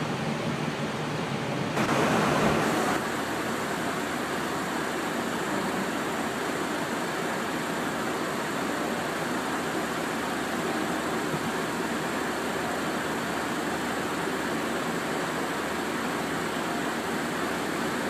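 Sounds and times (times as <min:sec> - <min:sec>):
airflow noise inside airliner: 0:00.0 - 0:18.0.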